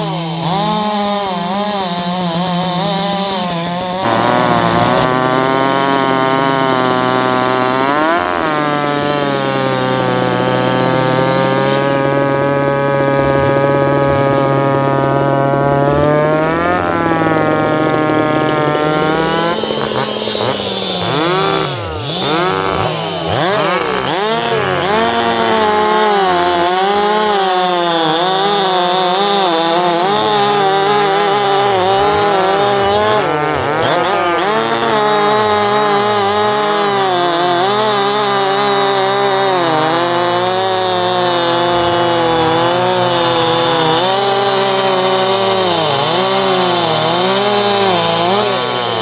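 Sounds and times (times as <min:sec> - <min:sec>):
chainsaw engine revving: 0:00.0 - 0:49.0.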